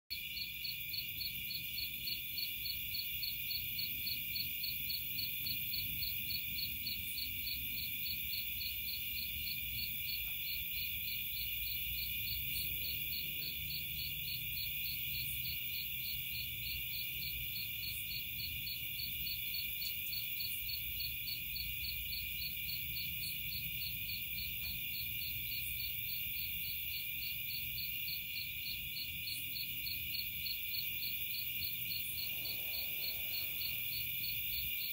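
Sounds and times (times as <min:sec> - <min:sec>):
insects trilling and chirping: 0:00.1 - 0:34.9.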